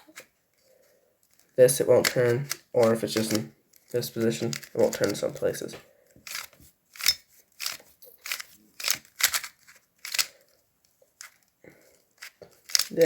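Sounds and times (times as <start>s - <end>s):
plastic puzzle clicking: 1.2s - 13.0s.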